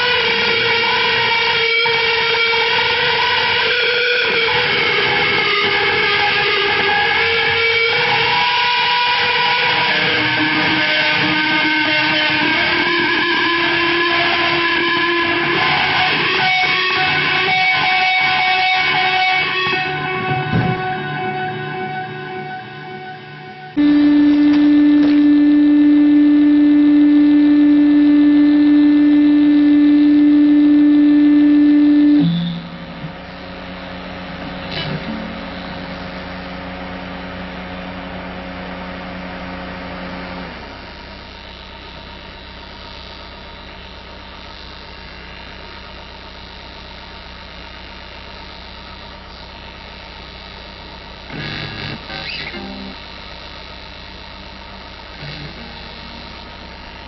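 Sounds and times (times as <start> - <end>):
amplifier hum: 0.0 - 57.0
electric guitar feedback tone: 0.0 - 57.0.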